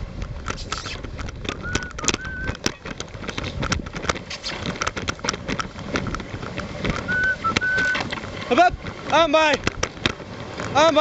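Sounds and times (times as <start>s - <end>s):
sled runners scraping on snow: 0.0s - 11.0s
wind rumbling on microphone: 0.0s - 11.0s.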